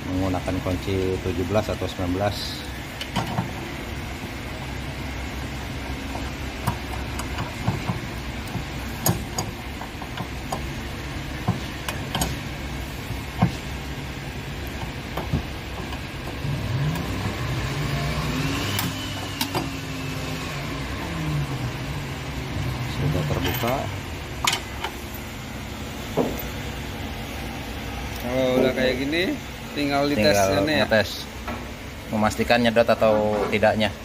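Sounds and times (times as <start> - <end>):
low engine-like hum: 0.0 - 34.0.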